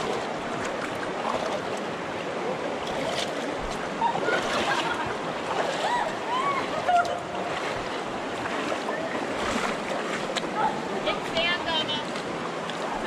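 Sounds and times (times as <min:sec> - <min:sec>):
river flowing over rocks: 0:00.0 - 0:13.0.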